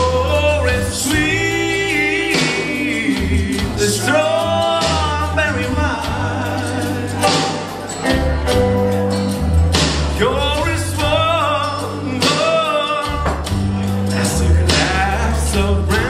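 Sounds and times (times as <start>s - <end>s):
man singing slow ballad: 0.0s - 8.5s, 10.1s - 16.0s
keyboard and bass accompaniment: 0.0s - 16.0s.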